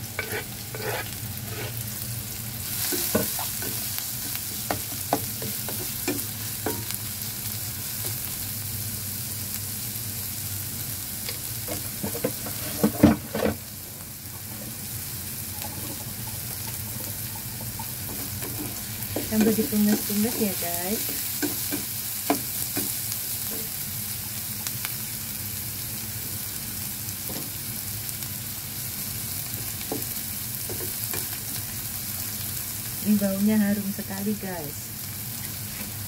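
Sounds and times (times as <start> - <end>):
food sizzling in hot oil: 0.0 - 36.0.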